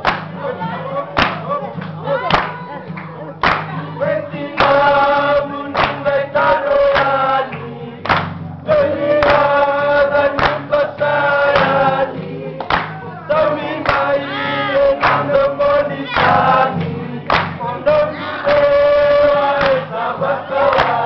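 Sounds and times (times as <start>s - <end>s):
acoustic guitar: 0.0s - 21.0s
men singing together: 3.1s - 21.0s.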